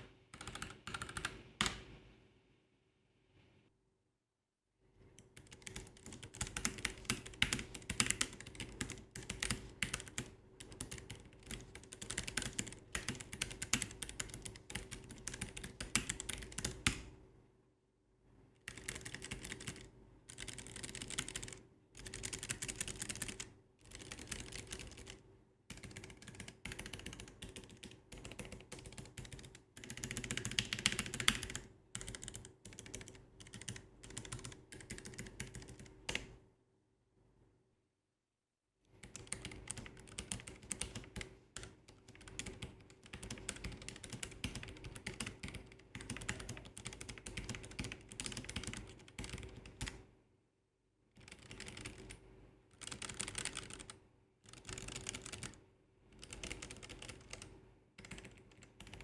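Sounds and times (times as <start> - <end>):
mechanical keyboard typing: 0.3 - 1.8, 5.2 - 17.1, 18.7 - 36.3, 39.0 - 50.0, 51.2 - 55.6, 56.2 - 59.0.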